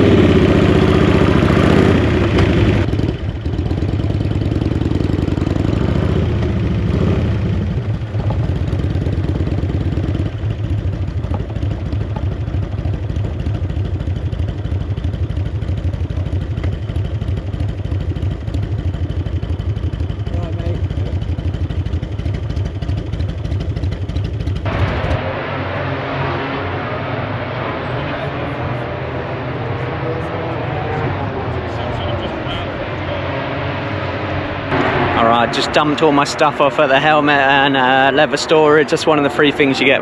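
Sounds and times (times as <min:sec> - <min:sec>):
motorcycle engine pulsing: 0:00.0 - 0:40.0.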